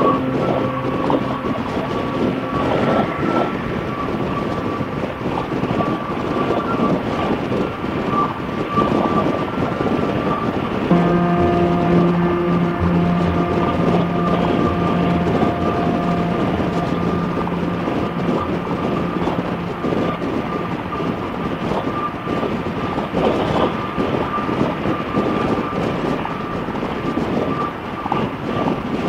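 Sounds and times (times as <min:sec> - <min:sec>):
motorcycle engine drone: 0:00.0 - 0:07.6, 0:10.9 - 0:27.8
wind rushing: 0:00.0 - 0:28.9.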